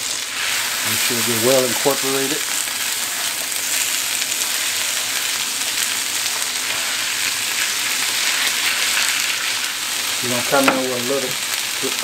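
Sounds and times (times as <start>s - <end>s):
asparagus sizzling in a skillet: 0.0s - 12.0s.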